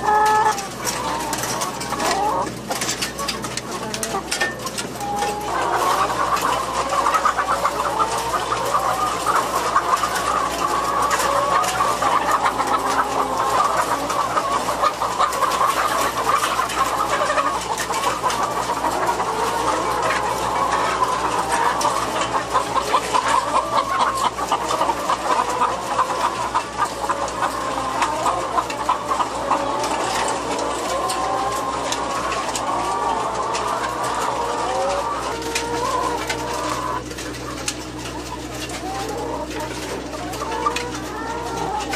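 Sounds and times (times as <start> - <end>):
hens clucking: 0.0 - 41.9.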